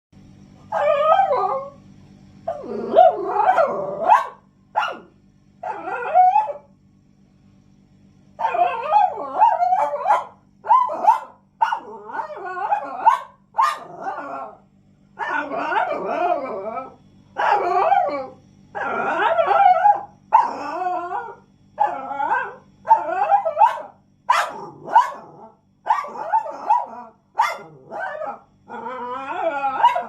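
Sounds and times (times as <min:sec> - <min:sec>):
dog barking and howling: 0:00.7 - 0:01.8, 0:02.5 - 0:06.7, 0:08.4 - 0:14.6, 0:15.2 - 0:30.0.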